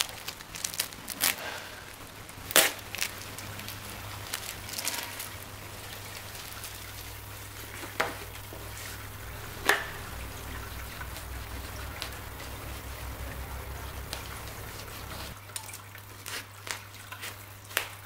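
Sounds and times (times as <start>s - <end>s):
paper packaging rustling: 0.0s - 15.4s.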